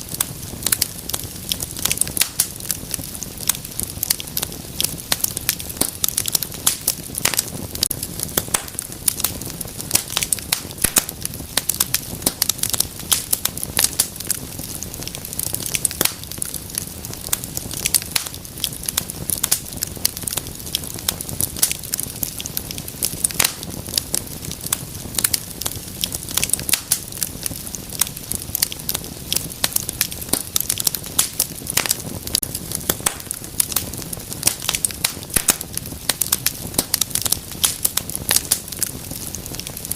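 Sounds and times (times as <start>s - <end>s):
soft rumble of flames: 0.0s - 39.9s
wood fire crackling and popping: 0.0s - 39.9s.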